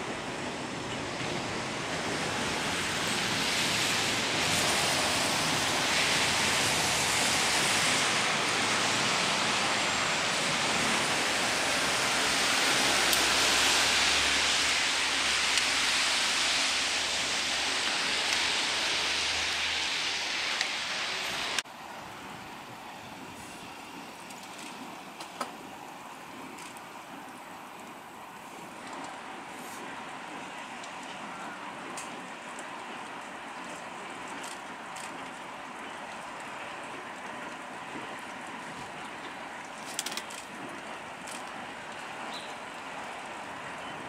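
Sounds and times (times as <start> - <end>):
train wheels rushing on rail: 0.0 - 44.0.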